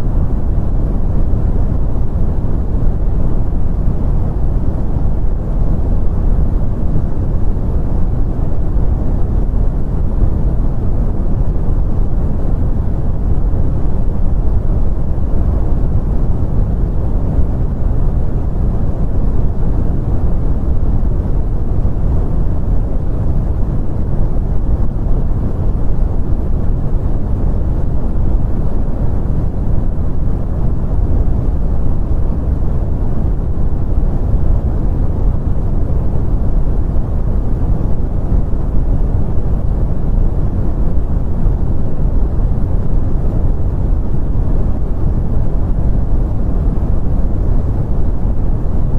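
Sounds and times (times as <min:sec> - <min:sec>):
brown noise rumbling hiss: 0:00.0 - 0:48.9.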